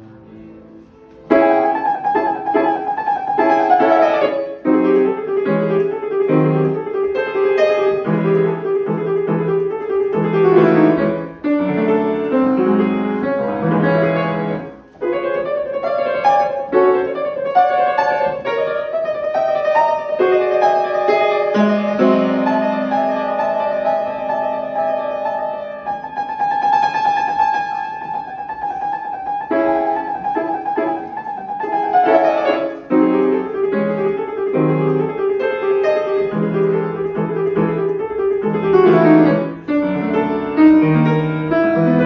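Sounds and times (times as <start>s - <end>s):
piano playing a melody: 0.0s - 42.0s.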